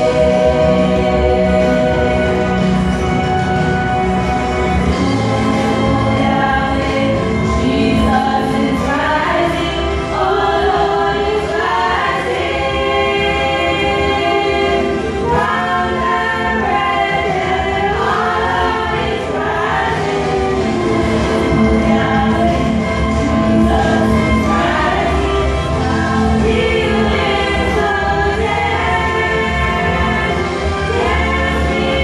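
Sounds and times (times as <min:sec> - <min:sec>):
women singing gospel song: 0:00.0 - 0:02.9, 0:04.9 - 0:32.0.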